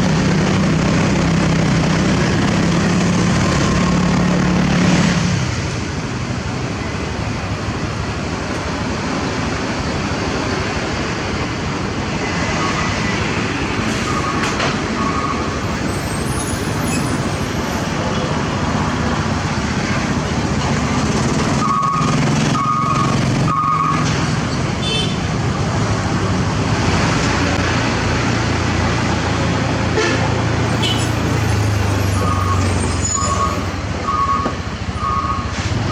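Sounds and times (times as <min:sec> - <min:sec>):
road traffic noise: 0:00.0 - 0:35.9.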